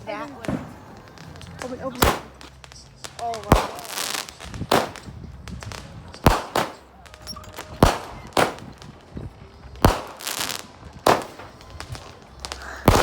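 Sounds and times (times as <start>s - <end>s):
fireworks bangs: 0.0s - 13.0s
fireworks crackling hiss: 0.0s - 13.0s.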